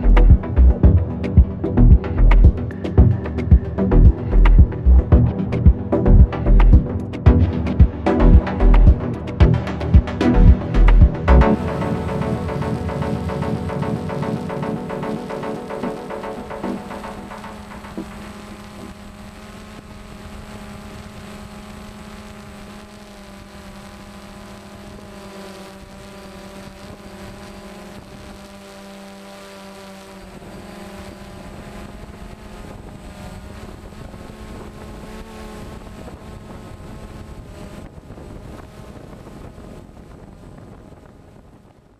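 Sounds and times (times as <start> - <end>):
drone propellers humming: 0.0 - 41.9.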